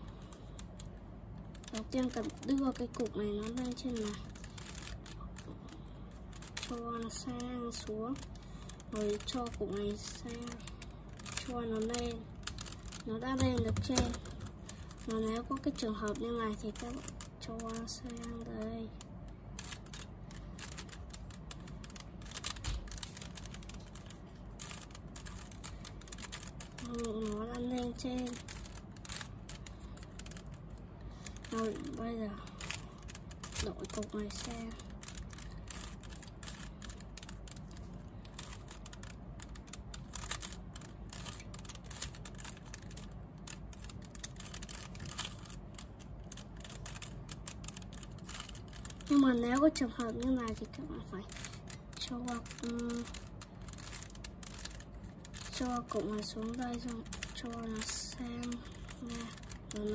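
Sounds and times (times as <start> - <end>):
puzzle cube layers clicking: 0.0 - 59.9.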